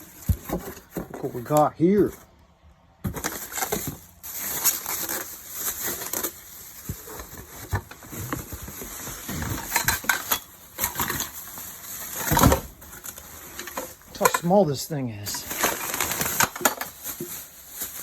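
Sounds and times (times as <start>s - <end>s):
packaging rustling and crinkling: 0.0s - 2.3s, 3.0s - 14.6s, 15.2s - 18.0s.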